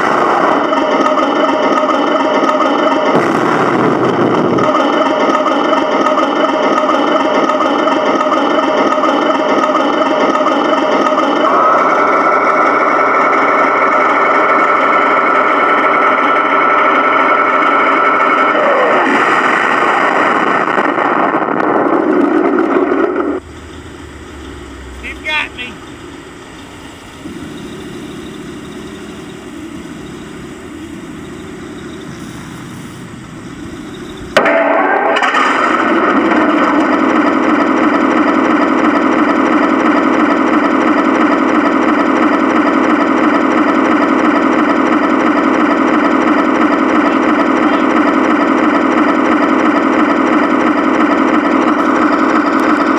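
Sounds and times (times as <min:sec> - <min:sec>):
simulated tank engine idling: 0:00.0 - 0:52.9.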